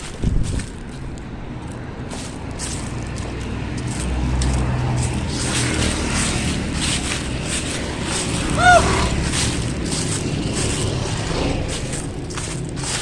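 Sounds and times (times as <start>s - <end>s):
footsteps on dry leaves: 0.0s - 13.0s.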